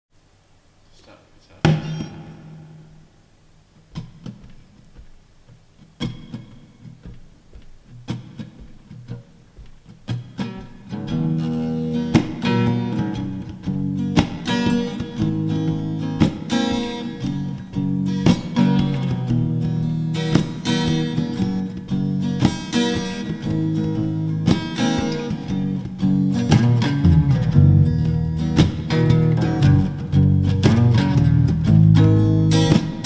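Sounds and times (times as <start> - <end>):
acoustic guitar strumming: 1.6 - 33.0.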